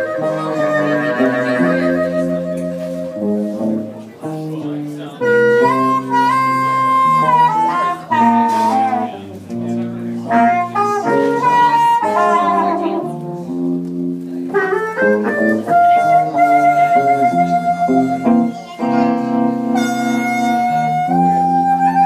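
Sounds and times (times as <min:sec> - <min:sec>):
blues harmonica solo: 0:00.0 - 0:03.9, 0:05.2 - 0:09.4, 0:10.2 - 0:13.7, 0:14.5 - 0:22.0
guitar and bass backing: 0:00.0 - 0:22.0.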